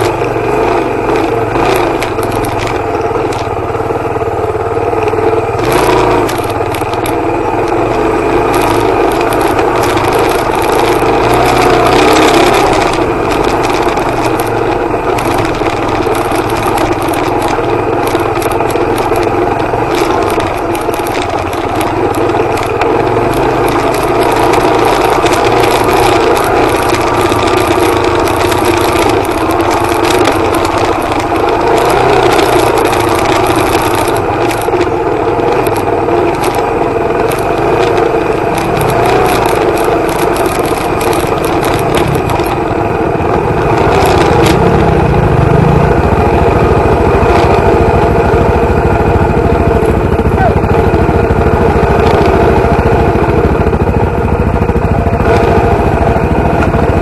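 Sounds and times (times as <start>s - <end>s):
motorcycle engine running: 0.0s - 57.0s
rattles and knocks over bumps: 0.0s - 57.0s.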